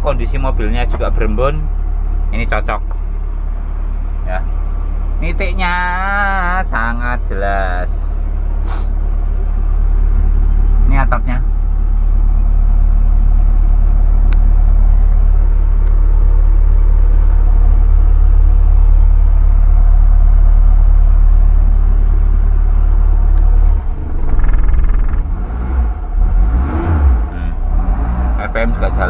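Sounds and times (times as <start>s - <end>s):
engine idling rumble: 0.0s - 29.0s.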